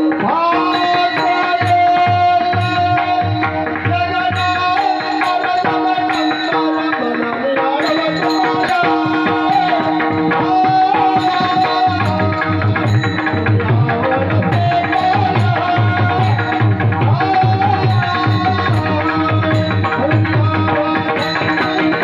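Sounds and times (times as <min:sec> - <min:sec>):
wavering held melody: 0:00.6 - 0:22.0.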